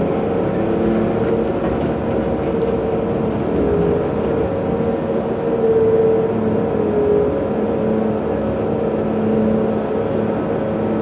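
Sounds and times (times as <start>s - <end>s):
excavator engine and hydraulics drone: 0.0s - 11.0s.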